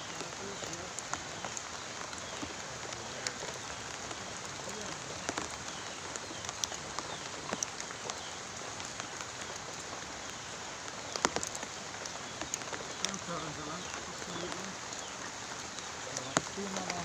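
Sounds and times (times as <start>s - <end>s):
raindrops ticking: 0.0s - 17.0s
steady rain hiss: 0.0s - 17.0s.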